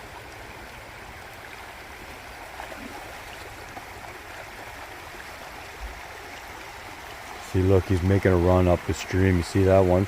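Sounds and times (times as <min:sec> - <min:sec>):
creek water rushing over rocks: 0:00.0 - 0:10.0.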